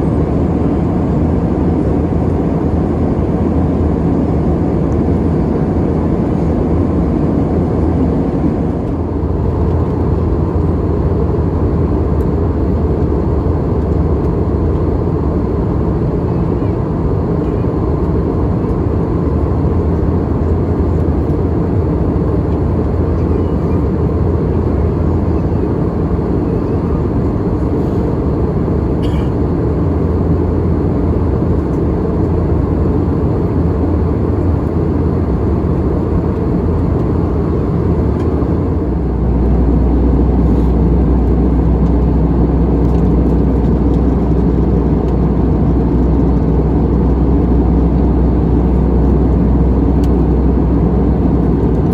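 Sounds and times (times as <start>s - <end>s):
aircraft cabin engine rumble: 0.0s - 51.9s.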